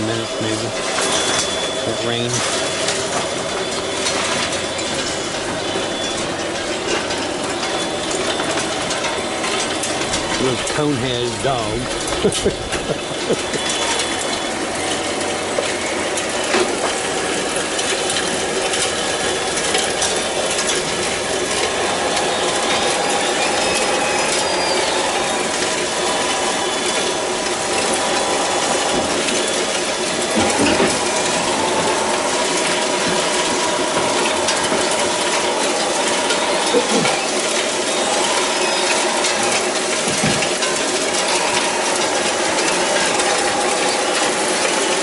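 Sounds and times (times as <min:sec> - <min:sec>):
small electric motors whining: 0:00.0 - 0:45.0.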